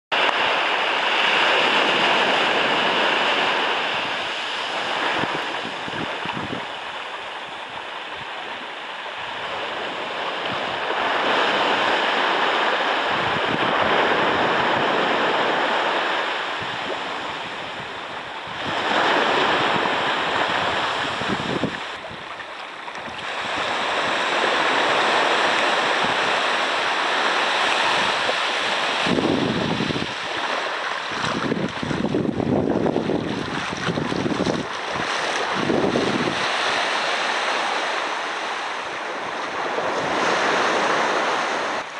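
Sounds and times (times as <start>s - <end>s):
small waves on sandy beach: 0.1s - 41.9s
wind buffeting microphone: 0.2s - 41.9s.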